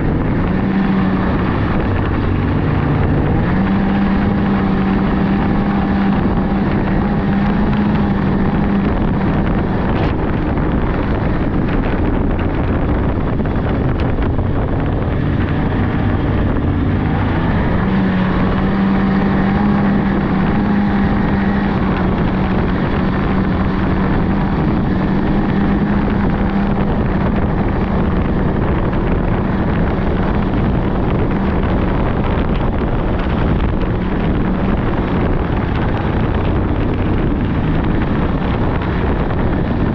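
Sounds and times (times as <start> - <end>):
snowmobile engine running: 0.0 - 39.9
wind buffeting microphone: 0.0 - 39.9.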